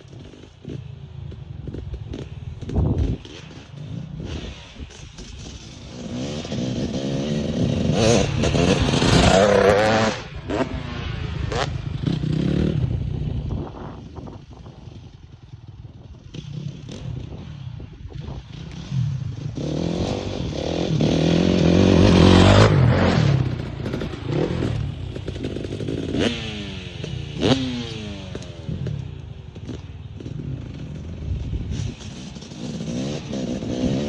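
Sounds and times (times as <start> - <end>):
dirt bike engine revving: 2.1 - 14.0, 18.3 - 34.0.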